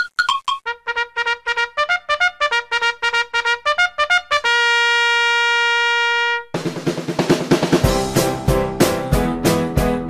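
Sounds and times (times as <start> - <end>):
brass tune: 0.6 - 10.0.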